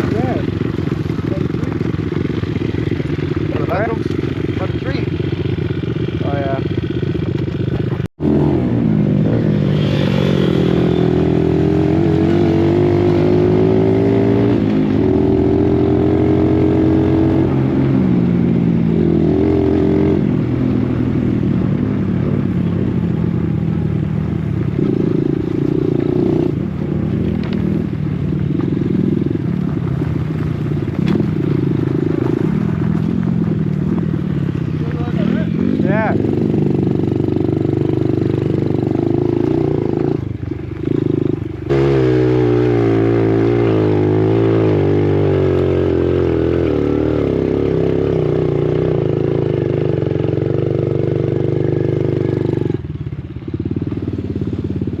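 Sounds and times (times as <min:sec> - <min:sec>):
dirt bike engine revving: 0:00.0 - 0:22.8, 0:30.9 - 0:52.8.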